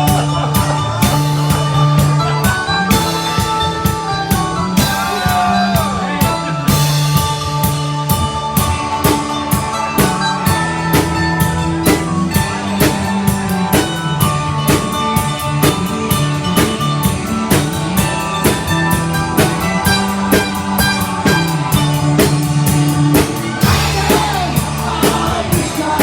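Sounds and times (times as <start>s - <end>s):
drum kit beat: 0.0s - 26.0s
rock band playing live: 0.0s - 26.0s.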